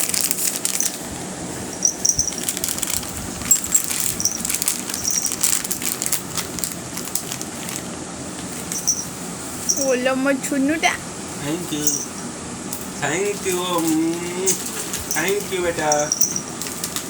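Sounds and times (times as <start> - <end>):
rustling of handled objects: 0.0 - 10.0, 11.5 - 17.0.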